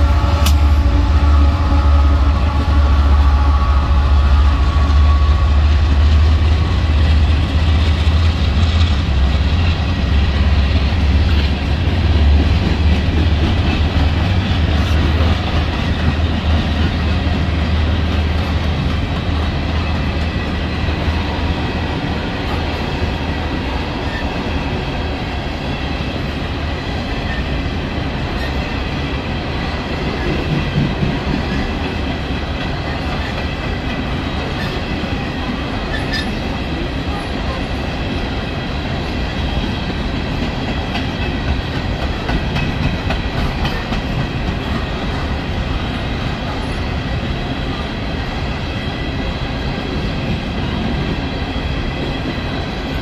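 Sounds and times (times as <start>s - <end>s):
diesel locomotive engine rumble: 0.0s - 53.0s
train wheels clattering on rails: 4.7s - 53.0s.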